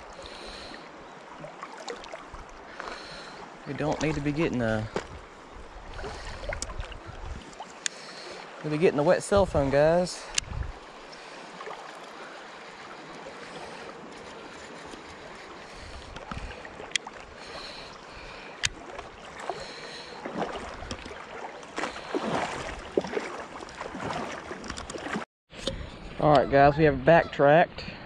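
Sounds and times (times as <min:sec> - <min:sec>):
river current rushing: 0:00.0 - 0:25.2
water splashing around legs: 0:01.4 - 0:25.2.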